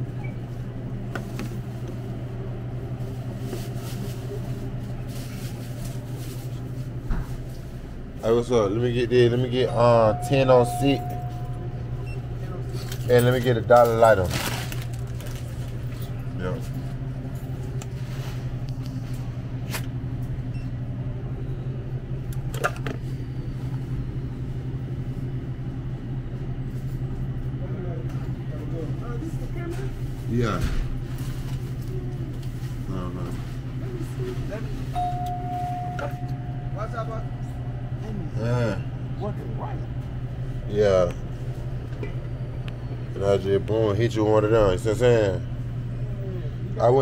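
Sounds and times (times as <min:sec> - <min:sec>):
low machine hum: 0:00.0 - 0:47.0.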